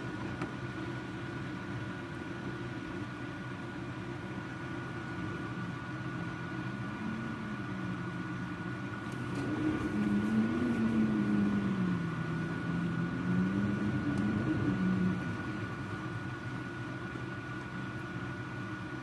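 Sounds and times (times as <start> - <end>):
faint high hum: 0.0 - 19.0.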